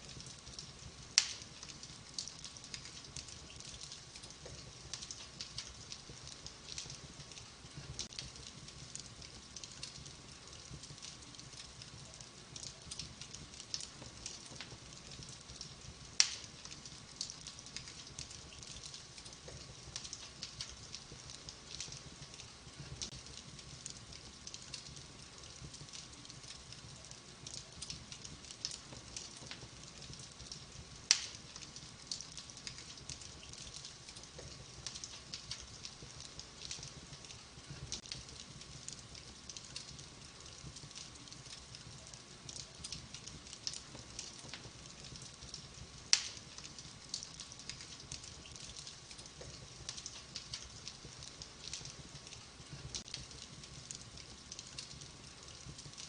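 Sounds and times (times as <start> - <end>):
fire crackling in a fireplace: 0.0 - 56.0
sharp fire pops: 0.1 - 56.0.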